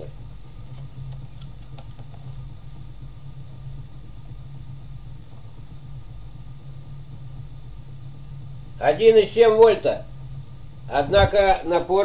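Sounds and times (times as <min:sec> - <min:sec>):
electric motor hum: 0:00.0 - 0:12.0
high-pitched motor whine: 0:00.0 - 0:12.0.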